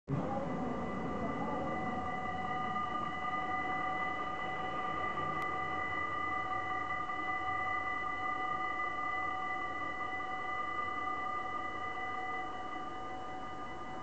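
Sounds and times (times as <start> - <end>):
level crossing warning bells: 0.2 - 14.0.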